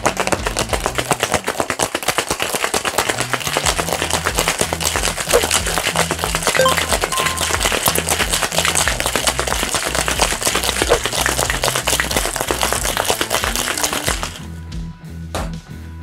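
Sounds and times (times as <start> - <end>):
ice rattling in metal shaker: 0.0 - 14.4.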